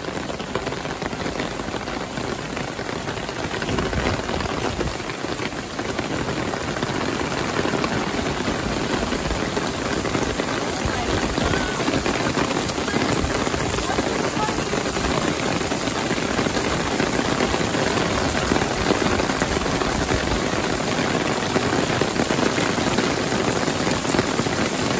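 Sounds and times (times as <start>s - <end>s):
heavy rain on asphalt: 0.0s - 24.9s.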